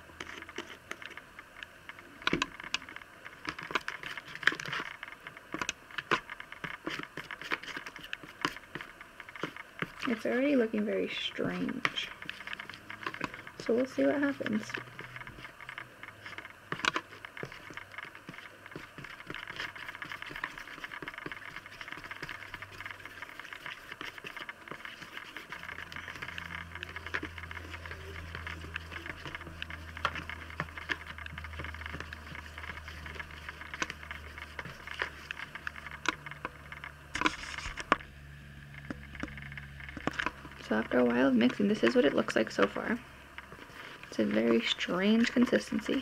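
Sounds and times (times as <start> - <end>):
stick stirring wet slime: 0.0 - 38.1, 38.7 - 46.0
low steady hum: 0.0 - 46.0.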